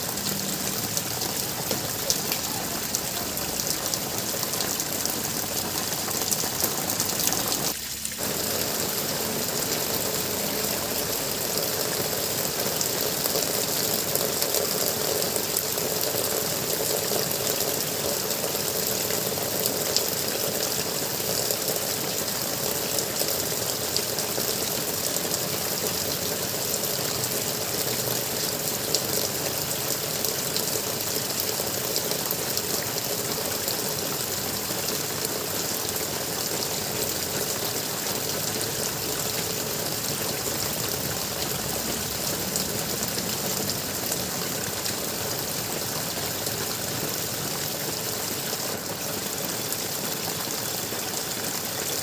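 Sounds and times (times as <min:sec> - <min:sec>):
water gurgling: 0:00.0 - 0:52.0.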